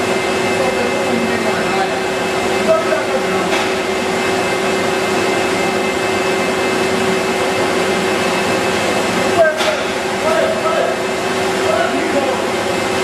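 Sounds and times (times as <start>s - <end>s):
machinery whirring: 0.0s - 13.0s.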